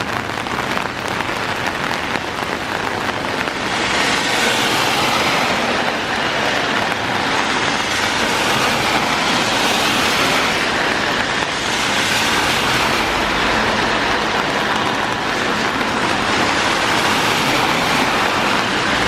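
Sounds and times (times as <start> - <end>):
cars passing on wet road: 0.0 - 19.0
heavy rain falling: 0.0 - 19.0.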